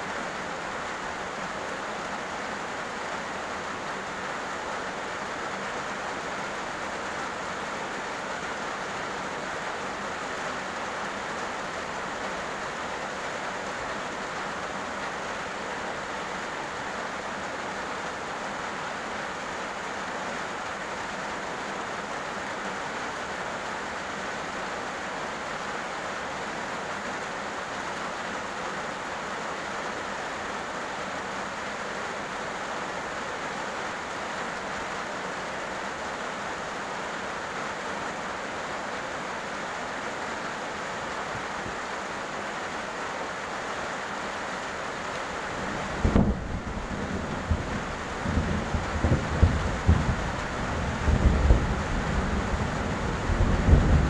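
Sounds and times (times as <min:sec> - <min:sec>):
heavy rain on road: 0:00.0 - 0:54.0.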